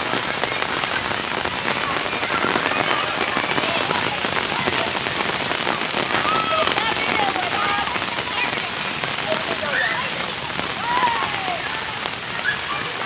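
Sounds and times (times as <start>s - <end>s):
heavy rain splashing: 0.0s - 13.0s.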